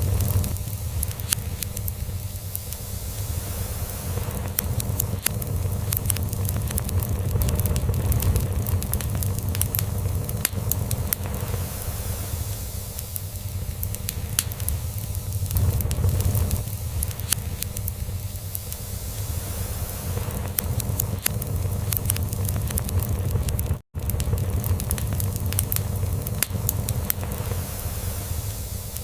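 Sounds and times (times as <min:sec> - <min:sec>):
log fire crackling and popping: 0:00.0 - 0:29.0.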